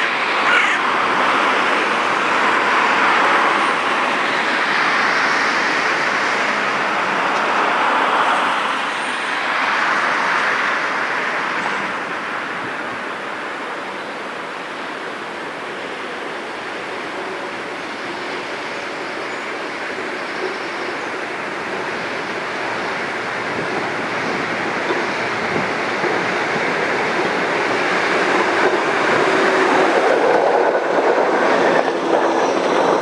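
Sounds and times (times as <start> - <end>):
rushing vehicle noise: 0.0 - 33.0.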